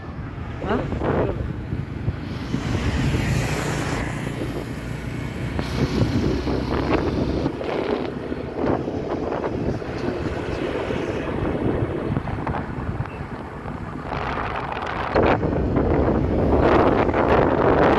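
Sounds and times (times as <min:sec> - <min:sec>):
road and traffic rumble: 0:00.0 - 0:17.9
wind buffeting microphone: 0:00.0 - 0:17.9.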